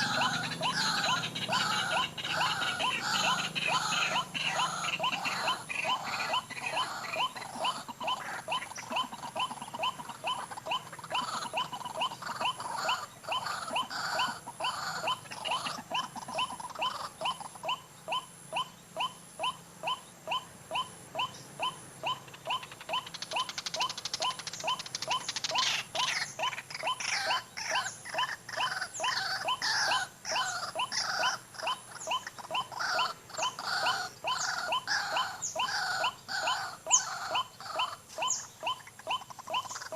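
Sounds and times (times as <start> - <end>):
bird short repeated calls: 0.0 - 39.9.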